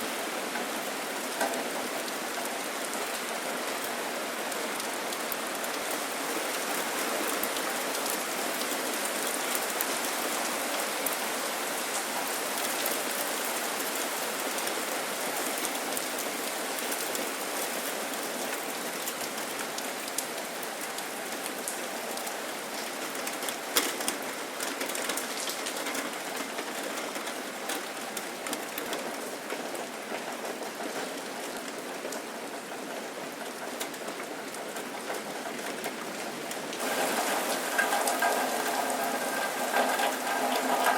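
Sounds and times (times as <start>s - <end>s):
steady rain falling: 0.0s - 40.9s
raindrops ticking close by: 0.1s - 40.9s.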